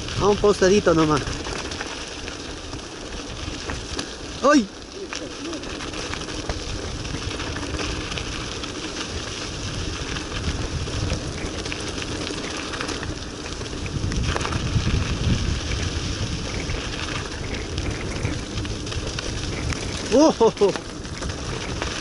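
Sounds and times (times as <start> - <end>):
wind on microphone: 0.0 - 4.3, 5.2 - 22.0
bike tyres crackling on gravel: 0.0 - 22.0.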